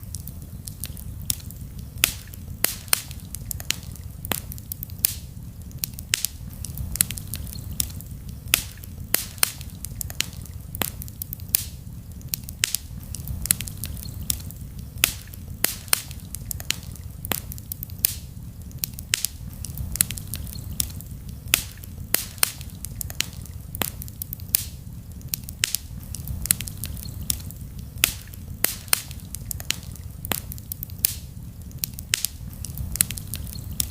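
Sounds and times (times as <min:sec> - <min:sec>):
campfire crackling and popping: 0:00.0 - 0:33.9
low rumble: 0:00.0 - 0:33.9.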